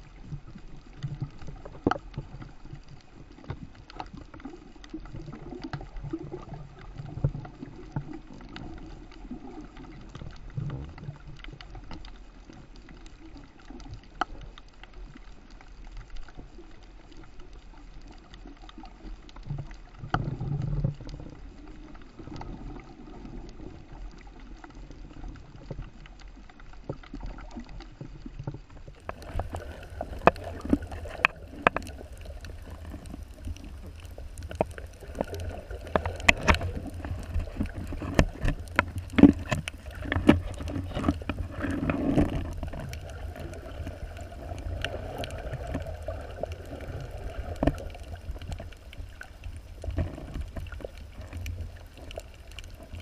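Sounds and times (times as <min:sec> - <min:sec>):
low underwater rumble: 0:00.0 - 0:53.0.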